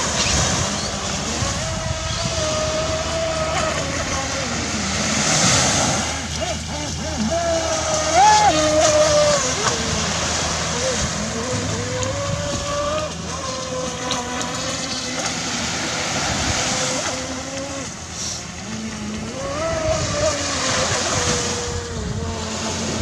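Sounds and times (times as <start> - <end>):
electric motor whining: 0.0 - 23.0
surf: 0.0 - 23.0
wind: 0.0 - 23.0.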